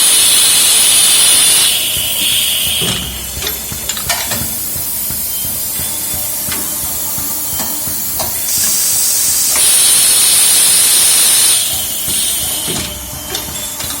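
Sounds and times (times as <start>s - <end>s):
compressed air blast: 0.0s - 14.0s
steady air hiss: 0.0s - 14.0s.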